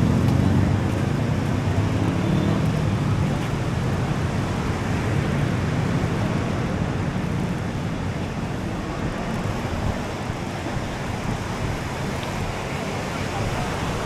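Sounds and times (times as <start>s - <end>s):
road traffic: 0.0s - 14.0s
surf: 0.0s - 14.0s
wind on the microphone: 0.0s - 14.0s.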